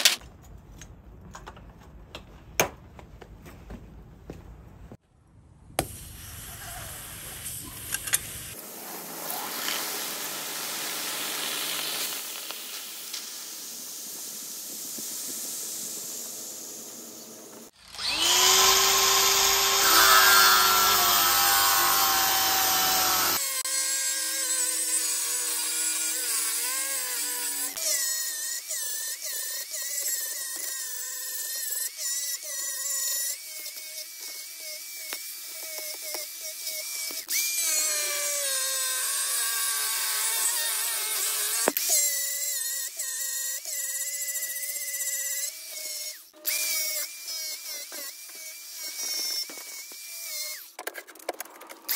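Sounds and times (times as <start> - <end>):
angle grinder grinding metal: 7.6 - 50.8.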